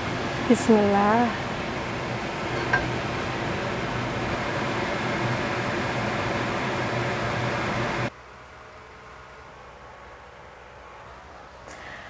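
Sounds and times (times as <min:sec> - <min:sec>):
constant low hum: 0:00.0 - 0:12.0
fan whirring: 0:00.0 - 0:12.0.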